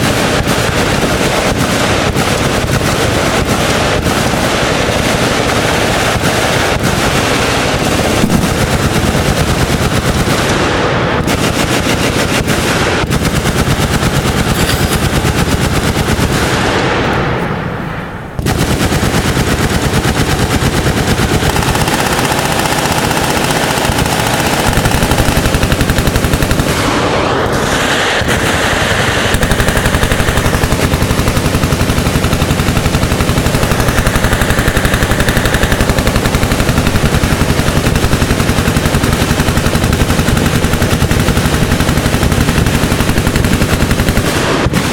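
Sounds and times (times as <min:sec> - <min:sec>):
machine gun fire: 0:00.0 - 0:44.9.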